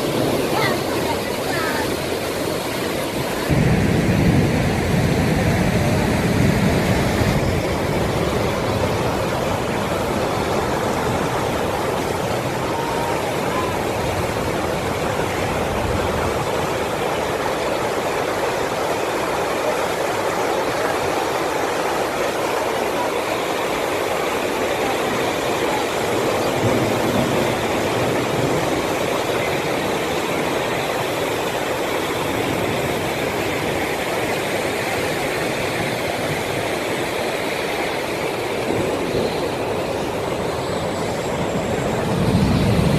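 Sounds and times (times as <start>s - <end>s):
floodwater rushing: 0.0s - 42.9s.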